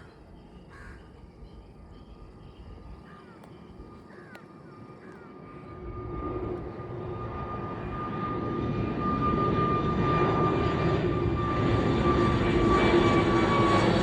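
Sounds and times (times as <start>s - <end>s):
airliner engines whine and roar: 0.0s - 14.0s.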